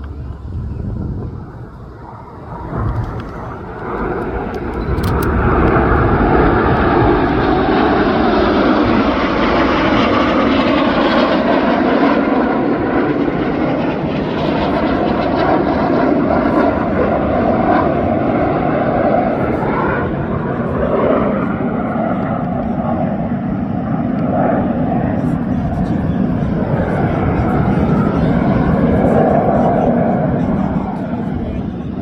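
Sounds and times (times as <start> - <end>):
jets flying past: 0.0 - 32.0.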